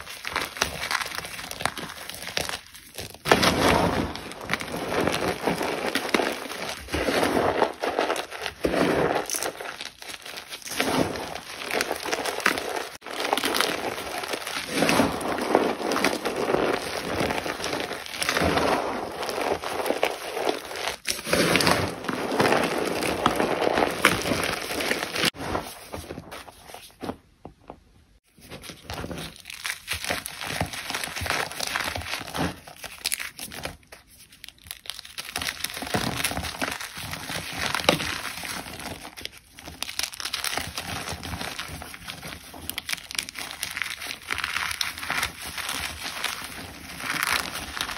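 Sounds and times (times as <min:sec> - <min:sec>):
chalk being crushed: 0:00.0 - 0:27.1, 0:28.3 - 0:47.9.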